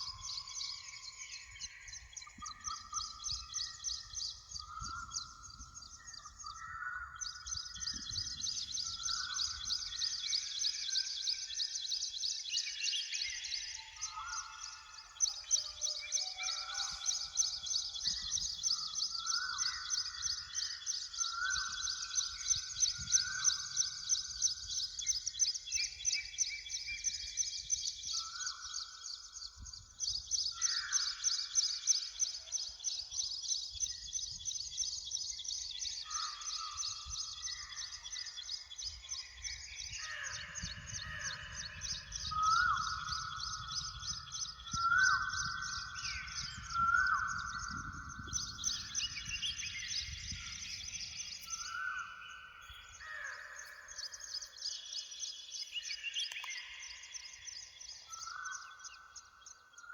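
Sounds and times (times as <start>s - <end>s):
whistled bird notes: 7.2s - 59.9s.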